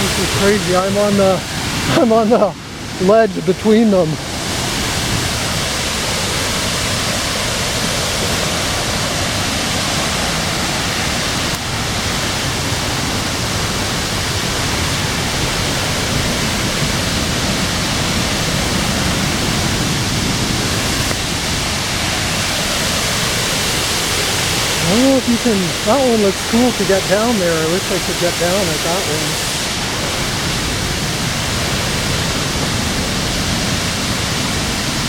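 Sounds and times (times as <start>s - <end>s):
waterfalls rushing: 0.0s - 35.0s.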